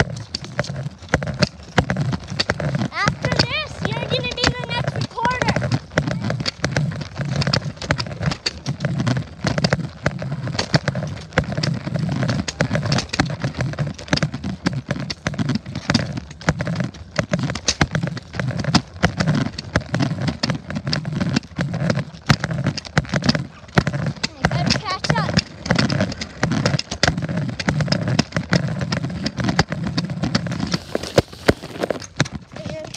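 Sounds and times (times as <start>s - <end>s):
running footsteps: 0.0s - 32.9s.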